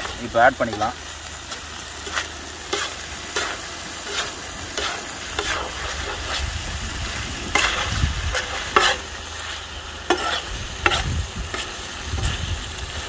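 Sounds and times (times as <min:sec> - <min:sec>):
meat sizzling: 0:00.0 - 0:13.0
metal spatula scraping griddle: 0:00.0 - 0:13.0.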